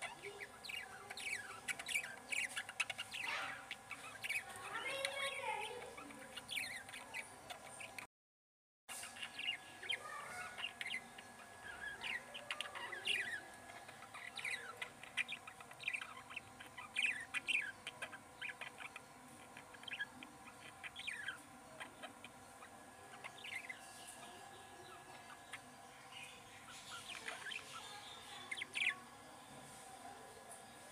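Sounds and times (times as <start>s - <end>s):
budgerigars chirping: 0.0s - 8.1s, 8.9s - 30.9s.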